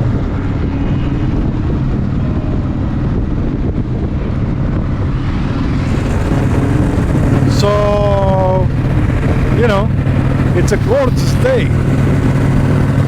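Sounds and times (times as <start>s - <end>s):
vehicle engine noise: 0.0s - 13.0s
wind rumble: 0.0s - 13.0s.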